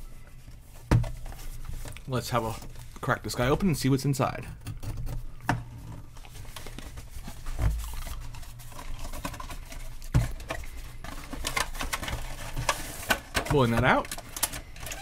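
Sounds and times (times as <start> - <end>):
card and plastic rustling: 0.0 - 4.4, 5.1 - 15.0.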